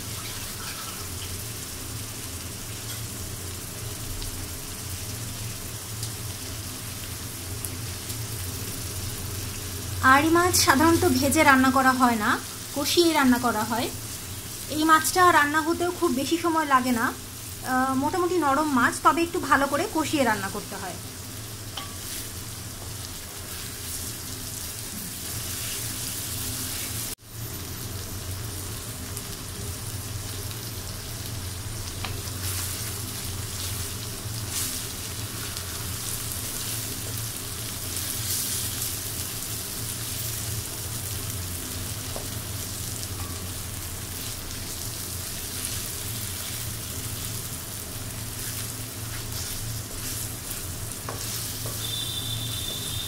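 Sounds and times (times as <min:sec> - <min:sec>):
fish sizzling in hot oil: 0:00.0 - 0:53.0.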